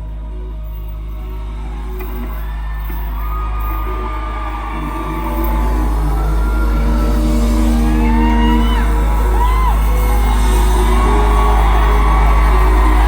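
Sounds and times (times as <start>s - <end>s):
audience whooping and screaming: 1.2s - 13.0s.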